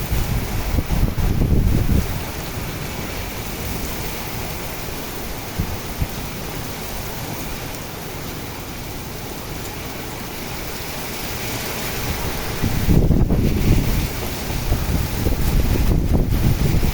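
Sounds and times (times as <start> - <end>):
heavy rain: 0.0 - 16.9.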